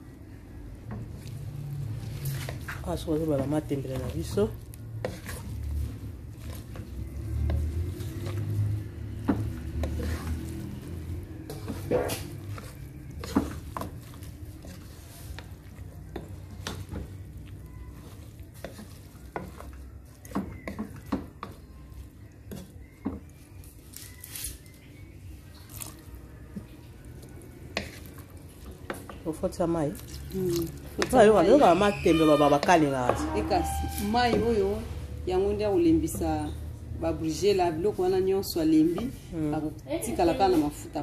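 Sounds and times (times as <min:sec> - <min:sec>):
wooden spoon stirring in pot: 0:00.0 - 0:41.0.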